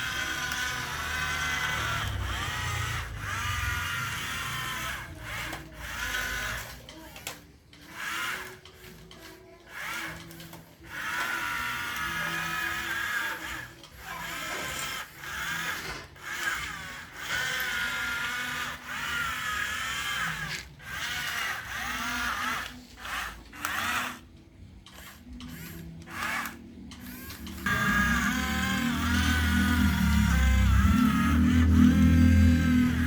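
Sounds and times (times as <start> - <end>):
small electric motors whining: 0.0 - 33.0.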